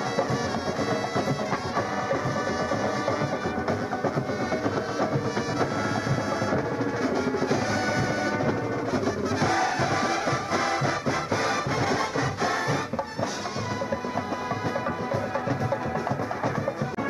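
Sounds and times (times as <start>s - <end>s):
bugles playing: 0.0s - 17.0s
drum line playing: 0.0s - 17.0s.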